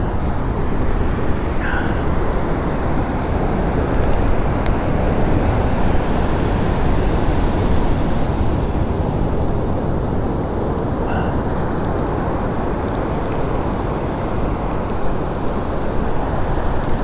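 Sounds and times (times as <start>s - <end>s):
surf roaring: 0.0s - 17.0s
wind buffeting microphone: 0.0s - 17.0s.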